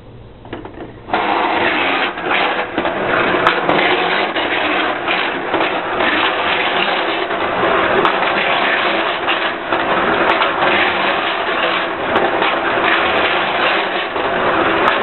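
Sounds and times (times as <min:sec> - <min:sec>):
tin cars running on metal track: 0:01.2 - 0:14.2.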